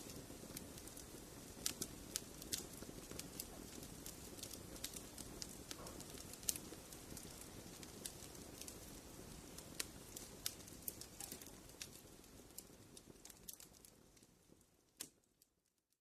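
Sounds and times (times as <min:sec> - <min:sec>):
fireplace fire snapping and popping: 0:00.0 - 0:15.9
soft rustle of burning: 0:00.0 - 0:16.0.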